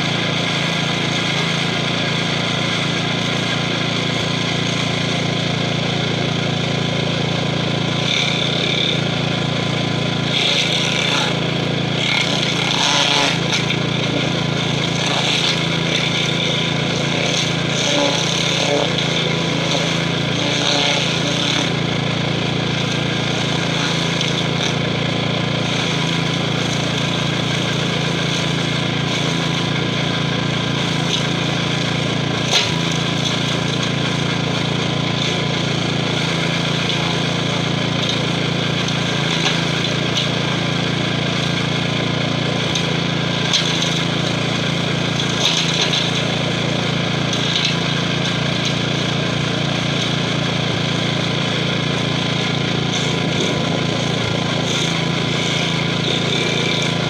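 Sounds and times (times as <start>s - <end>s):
engine running under load: 0.0s - 57.0s
grinder wheel chewing stump: 0.0s - 57.0s.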